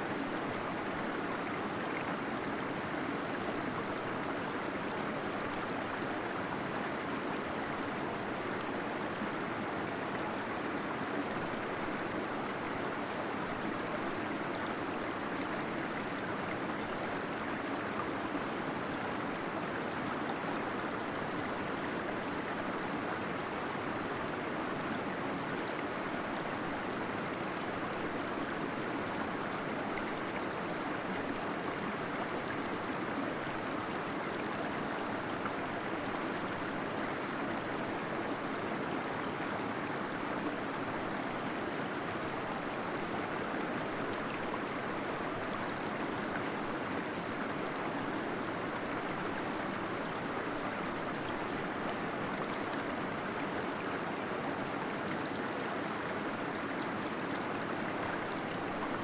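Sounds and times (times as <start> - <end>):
gentle waterfall flowing: 0.0 - 59.0.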